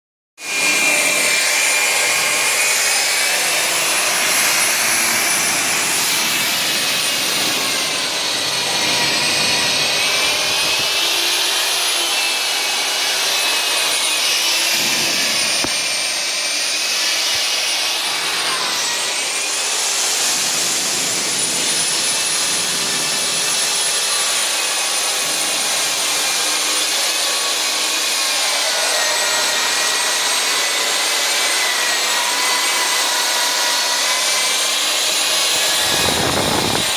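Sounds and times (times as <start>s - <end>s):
core drill grinding whine: 0.4s - 36.9s.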